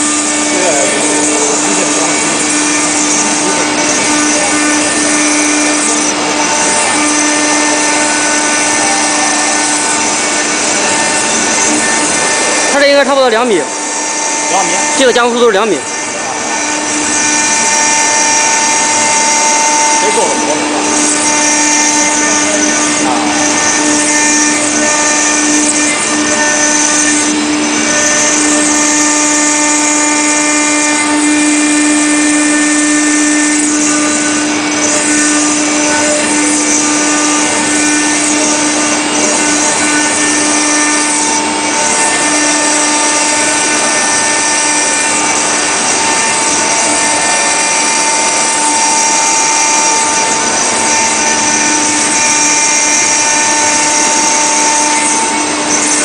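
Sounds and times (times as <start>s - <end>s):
cutter grinding stone: 0.0s - 56.0s
router spindle whine: 0.0s - 56.0s.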